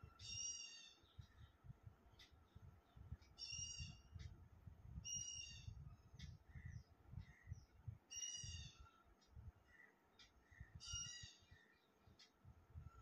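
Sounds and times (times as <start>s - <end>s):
faint high bird calls: 0.0s - 2.6s, 3.2s - 4.3s, 5.0s - 12.3s.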